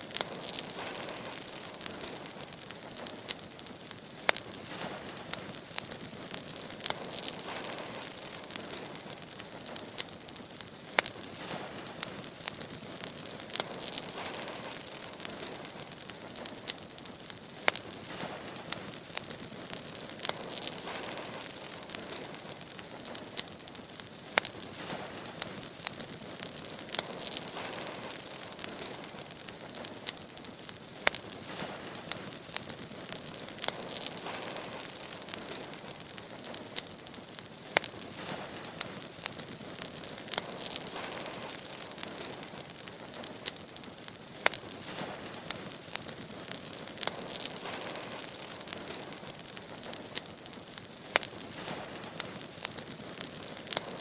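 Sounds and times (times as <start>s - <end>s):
fire crackles and pops: 0.0s - 54.0s
fire hissing: 0.0s - 54.0s.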